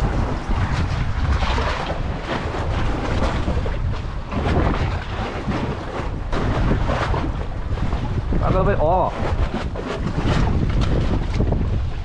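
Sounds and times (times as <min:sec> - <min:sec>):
sea water splashing on concrete: 0:00.0 - 0:12.0
wind buffeting microphone: 0:00.0 - 0:12.0.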